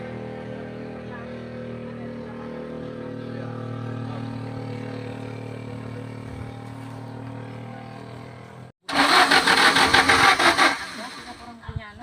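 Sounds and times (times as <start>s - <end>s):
loud rapidly pulsing engine: 0.0s - 11.5s
vehicle engine humming: 0.0s - 12.0s.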